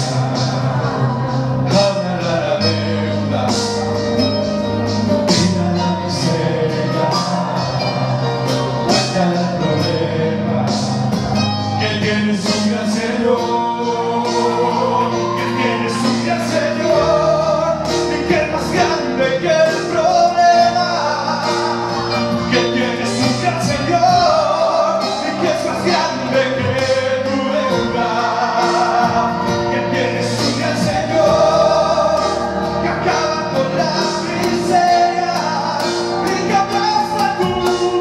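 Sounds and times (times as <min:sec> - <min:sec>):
music with percussive beat: 0:00.0 - 0:38.0
man singing into microphone: 0:01.6 - 0:04.5, 0:05.1 - 0:38.0.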